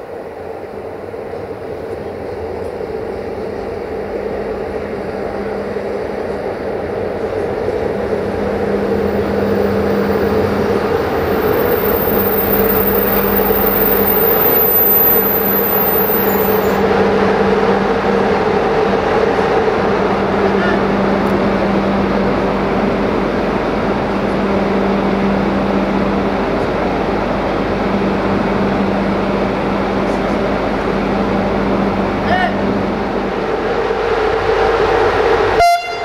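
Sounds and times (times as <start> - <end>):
train approaching: 0.0 - 36.0.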